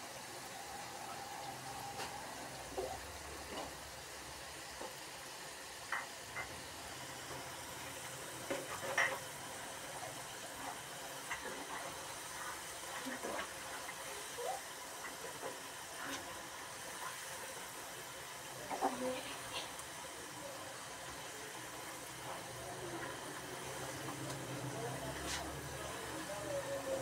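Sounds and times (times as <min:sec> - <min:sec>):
deep-frying sizzle in oil: 0:00.0 - 0:27.0.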